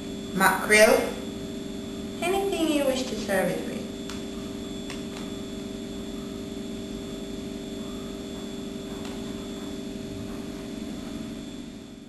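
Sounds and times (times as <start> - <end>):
electrical hum with whine: 0.0 - 12.0.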